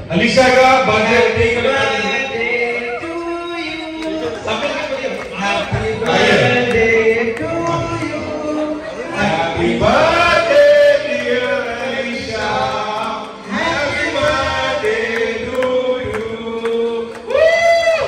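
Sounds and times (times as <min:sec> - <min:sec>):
group of voices singing: 0:00.8 - 0:17.6.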